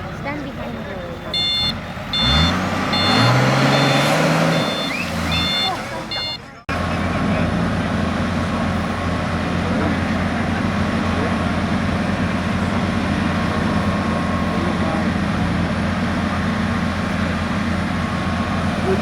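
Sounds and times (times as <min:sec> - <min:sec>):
engine running with low rumble: 0:00.0 - 0:19.0.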